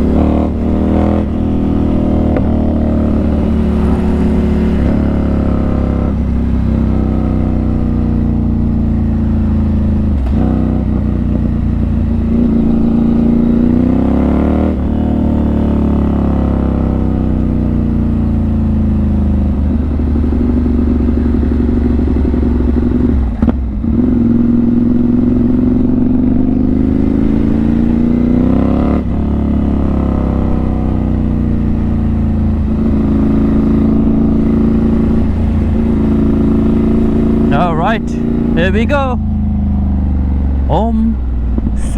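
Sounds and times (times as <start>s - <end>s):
motorcycle engine shifting gears: 0.0s - 41.9s.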